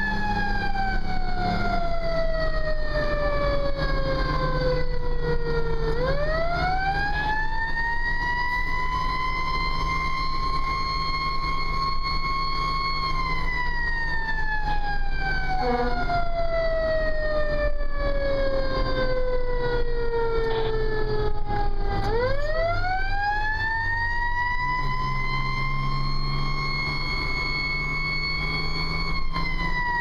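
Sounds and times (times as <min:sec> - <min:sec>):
fire engine running: 0:00.0 - 0:30.0
fire engine siren: 0:00.0 - 0:30.0.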